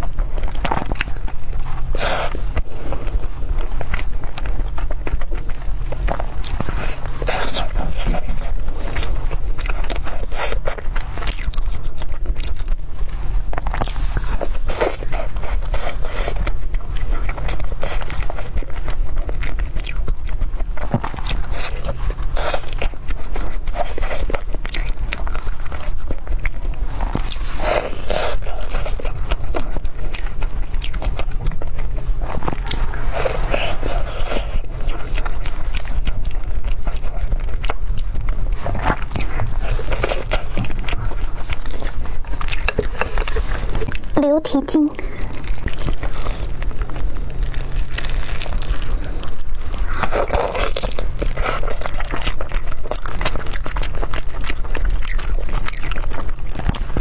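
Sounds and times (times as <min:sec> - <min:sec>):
chewing and wet mouth sounds: 0:00.0 - 0:57.0
low hum: 0:00.0 - 0:57.0
pastry crust crackling: 0:00.0 - 0:57.0.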